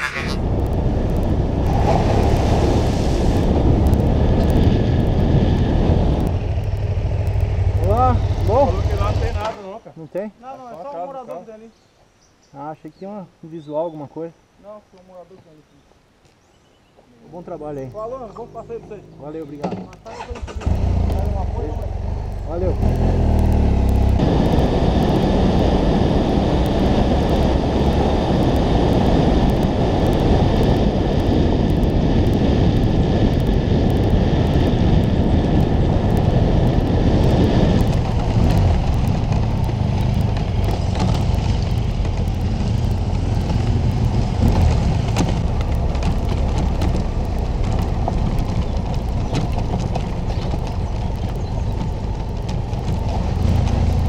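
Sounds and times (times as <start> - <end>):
motorcycle engine rumble: 0.0 - 9.8, 17.4 - 54.0.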